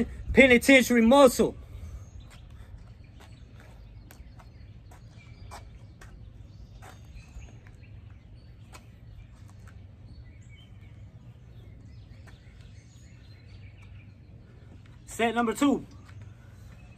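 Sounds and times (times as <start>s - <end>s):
birds chirping: 0.0s - 16.9s
steady low rumble: 0.0s - 16.9s.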